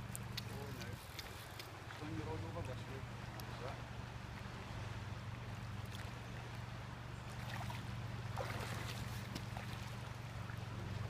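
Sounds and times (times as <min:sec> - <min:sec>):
river water splashing: 0:00.0 - 0:11.0
steady low hum: 0:00.0 - 0:11.0.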